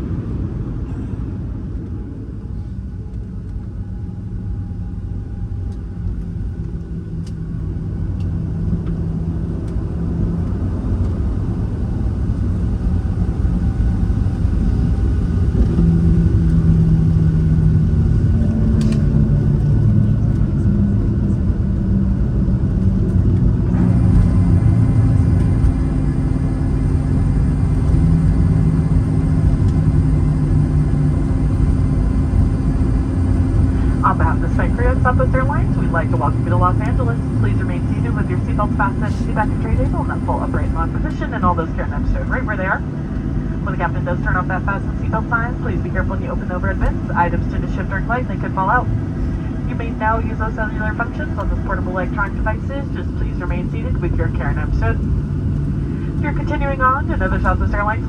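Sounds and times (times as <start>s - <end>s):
airplane cabin engine rumble: 0.0s - 58.0s
steady whine: 1.6s - 58.0s.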